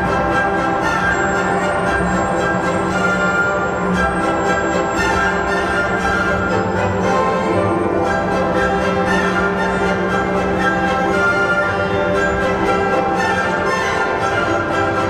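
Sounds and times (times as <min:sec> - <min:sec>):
orchestral strings: 0:00.0 - 0:15.0.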